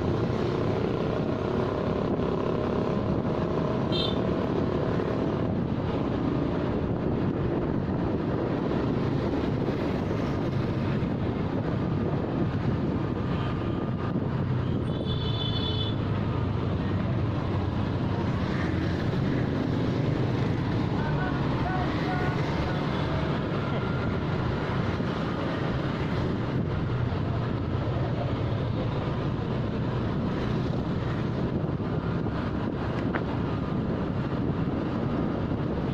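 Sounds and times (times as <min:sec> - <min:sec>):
street traffic: 0:00.0 - 0:35.9
wind rush: 0:00.0 - 0:35.9.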